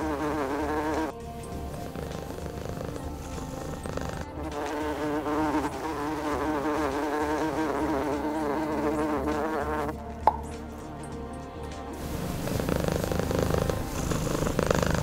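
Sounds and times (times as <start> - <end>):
insect buzzing: 0.0 - 10.0, 12.0 - 15.0.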